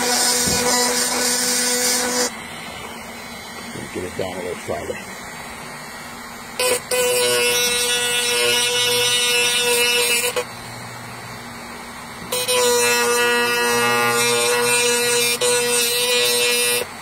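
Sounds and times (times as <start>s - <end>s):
rotary tool grinding whine: 0.0s - 10.5s, 12.2s - 17.0s.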